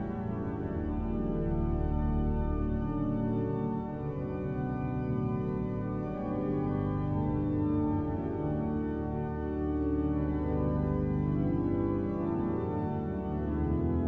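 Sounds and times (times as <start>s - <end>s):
pipe organ chords: 0.0s - 14.0s.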